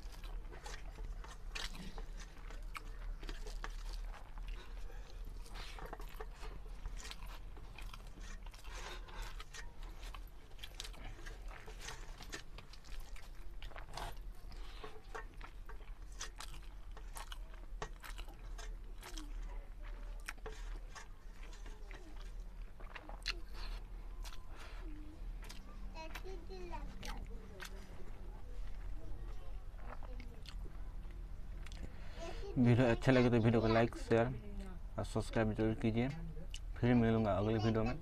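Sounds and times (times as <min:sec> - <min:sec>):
man chewing food: 0:00.0 - 0:34.2, 0:36.4 - 0:37.8
constant low hum: 0:00.0 - 0:38.0.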